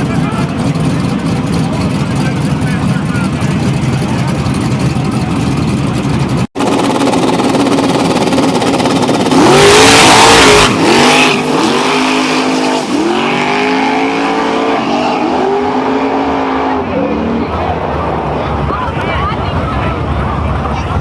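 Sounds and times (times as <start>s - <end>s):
race car engine at full throttle: 0.0s - 21.0s.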